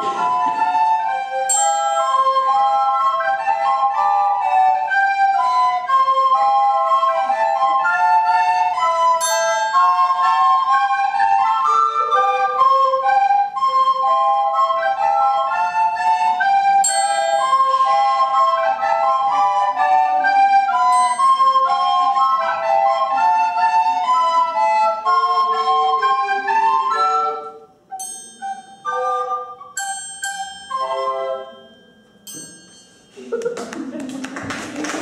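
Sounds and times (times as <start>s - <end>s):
recorder ensemble playing: 0.0s - 32.5s.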